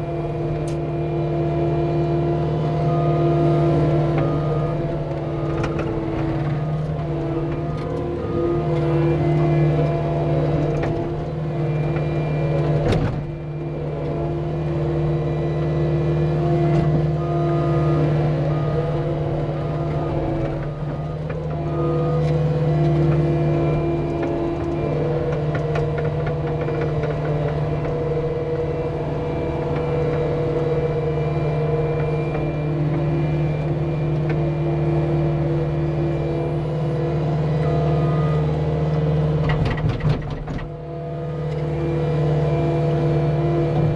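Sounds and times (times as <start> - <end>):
diesel engine running: 0.0 - 43.9
higher whining tones: 0.0 - 43.9.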